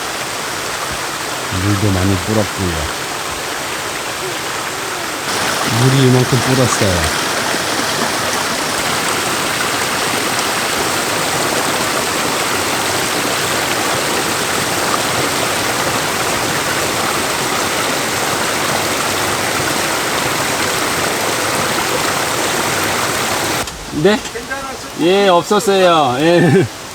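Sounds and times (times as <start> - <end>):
stream rushing: 0.0 - 26.9.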